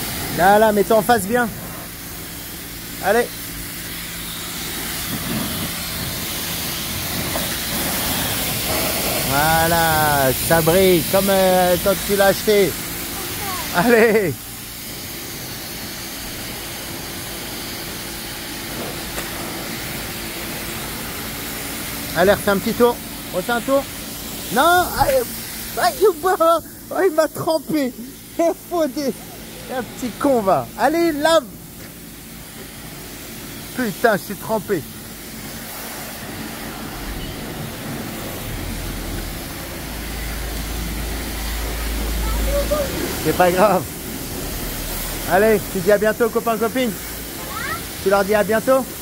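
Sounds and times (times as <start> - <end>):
pressure washer motor hum: 0.0 - 49.0
water jet hissing: 0.0 - 49.0.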